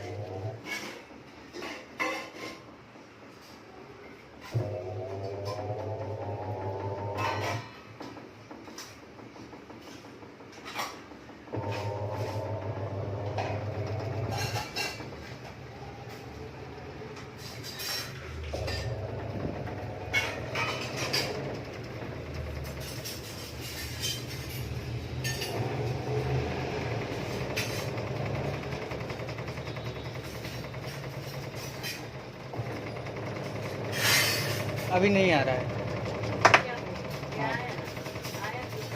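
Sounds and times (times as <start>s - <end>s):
washing machine motor hum: 0.0s - 1.6s, 2.8s - 38.9s.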